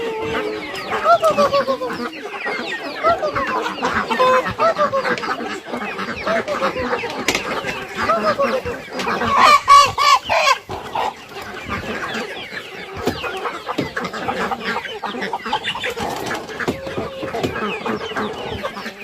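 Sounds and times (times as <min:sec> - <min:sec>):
chicken rapid loud calls: 0:00.0 - 0:19.0
chickens clucking: 0:00.0 - 0:19.0.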